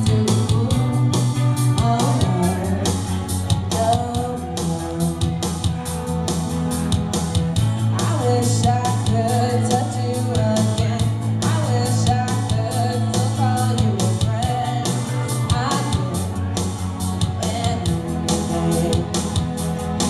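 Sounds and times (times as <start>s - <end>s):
person singing into a microphone: 0.0s - 5.8s, 7.6s - 19.4s
rock backing track: 0.0s - 20.0s.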